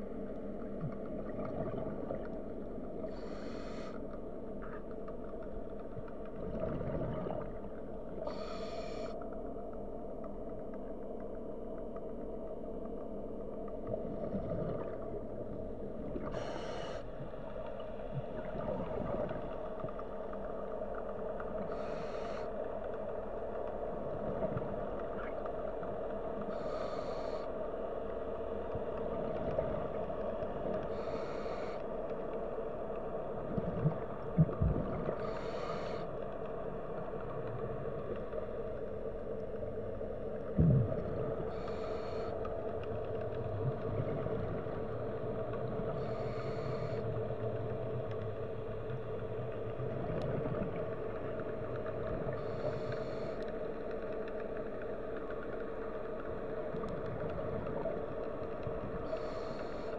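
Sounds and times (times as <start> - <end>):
low underwater hum: 0.0 - 59.9.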